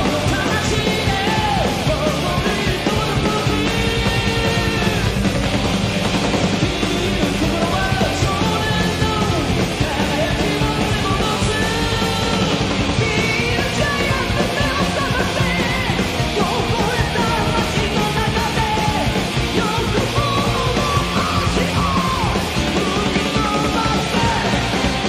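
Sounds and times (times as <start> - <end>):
loud live rock band: 0.0 - 25.0.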